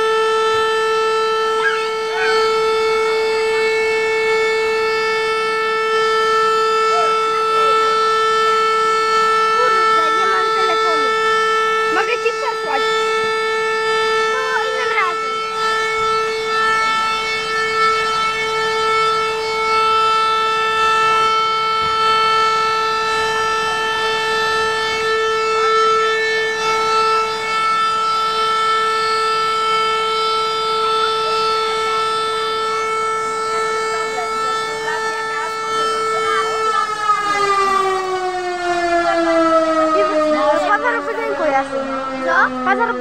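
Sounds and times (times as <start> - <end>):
fire engine siren steady tone: 0.0 - 43.0.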